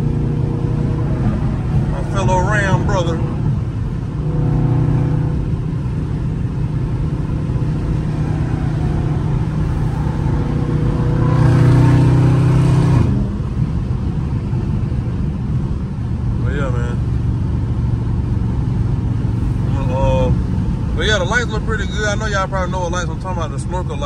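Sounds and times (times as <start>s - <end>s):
car engine droning: 0.0s - 24.0s
road noise: 0.0s - 24.0s.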